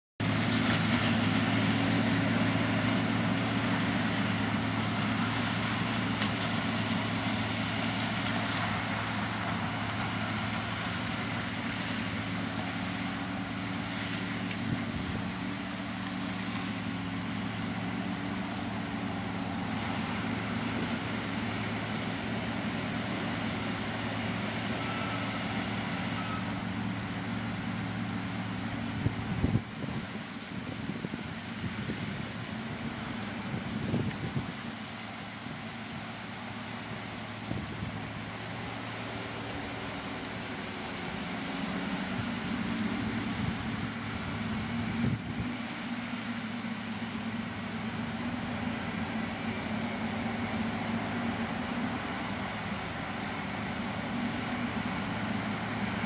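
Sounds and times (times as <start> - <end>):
harvester engine drone: 0.2 - 56.0
rushing machinery noise: 0.2 - 56.0.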